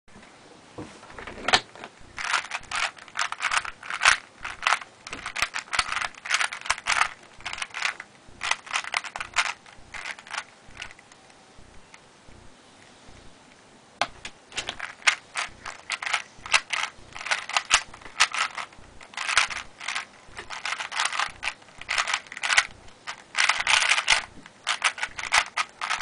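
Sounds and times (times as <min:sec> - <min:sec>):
puzzle cube clicking: 0:02.2 - 0:11.3, 0:14.0 - 0:26.0.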